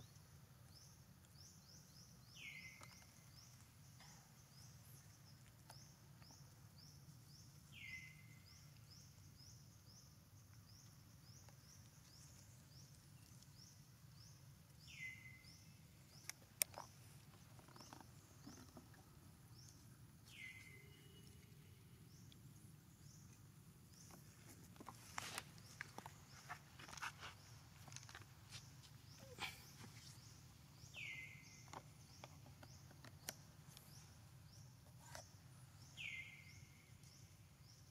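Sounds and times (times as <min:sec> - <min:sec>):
bird chirping: 0:00.0 - 0:37.9.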